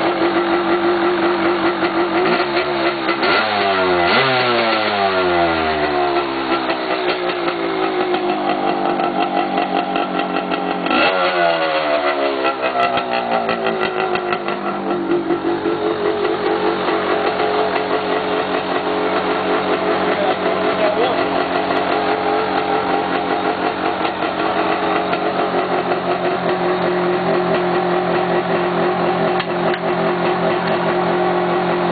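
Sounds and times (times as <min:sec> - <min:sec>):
motorcycle engine revving and idling: 0:00.0 - 0:31.9.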